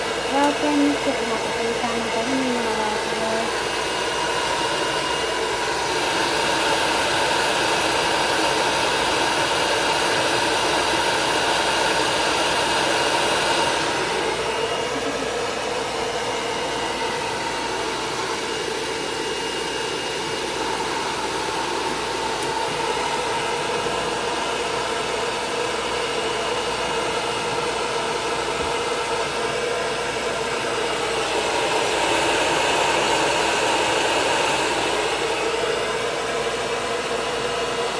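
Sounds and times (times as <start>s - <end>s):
pet dryer blowing air: 0.0s - 37.9s.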